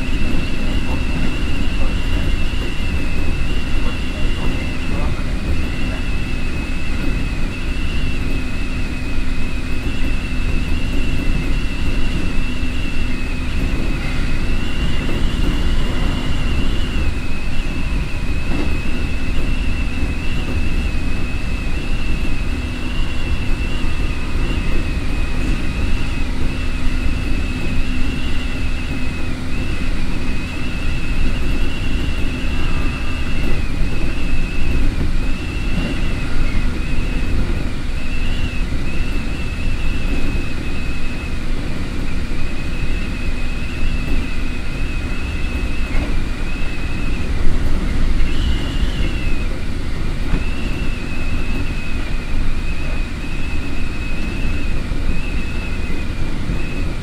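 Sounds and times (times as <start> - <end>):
high electric motor whine: 0.0 - 57.0
wheels rumbling on rail: 0.0 - 57.0.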